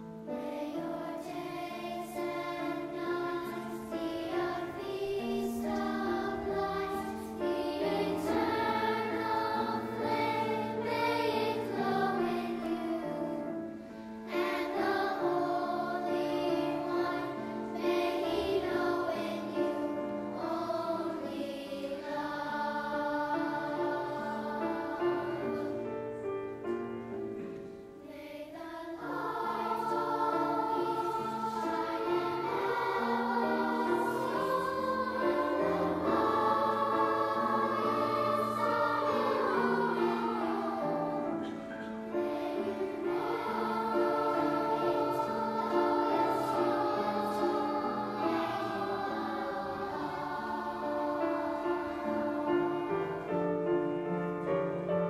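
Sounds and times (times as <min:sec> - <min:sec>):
children's choir singing: 0:00.0 - 0:55.0
piano accompaniment: 0:00.0 - 0:55.0.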